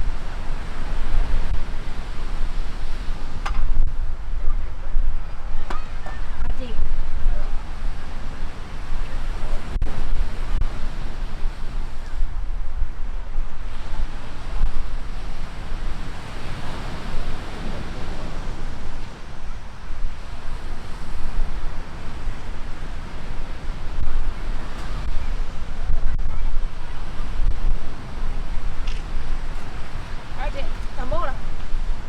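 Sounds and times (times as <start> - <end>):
sea surf washing on beach: 0.0 - 32.0
wind buffeting microphone: 0.0 - 32.0.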